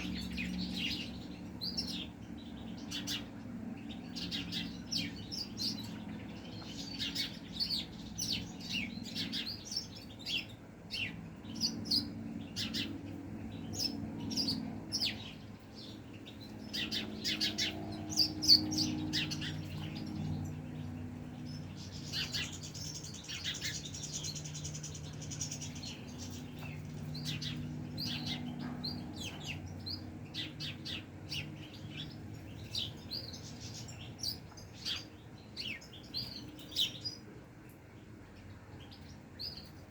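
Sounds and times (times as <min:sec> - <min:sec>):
buzzy twittering birdsong: 0:00.0 - 0:39.9
finches chirping and calling: 0:00.0 - 0:39.9
low steady hum: 0:00.0 - 0:39.9.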